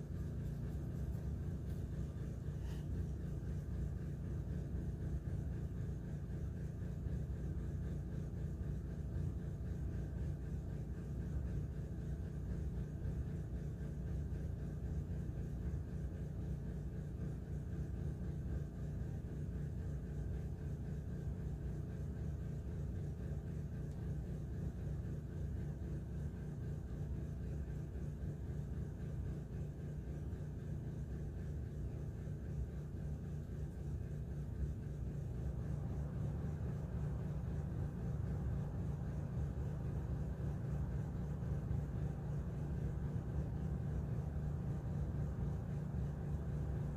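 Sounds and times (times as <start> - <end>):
faint hum: 0.0 - 46.9
low background rumble: 0.0 - 46.9.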